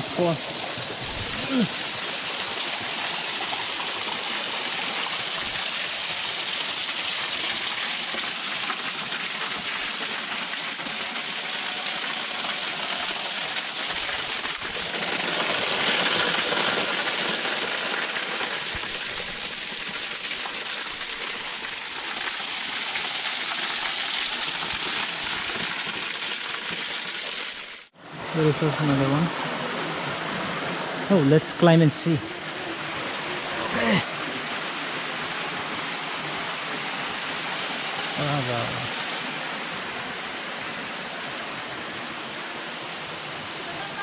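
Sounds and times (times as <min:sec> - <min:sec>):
waterfall splashing into pool: 0:00.0 - 0:27.9, 0:28.7 - 0:44.0.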